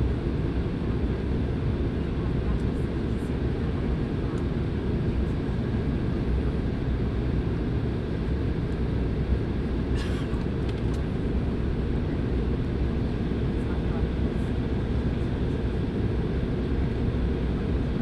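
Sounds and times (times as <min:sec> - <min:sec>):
airliner cabin roar: 0:00.0 - 0:18.0.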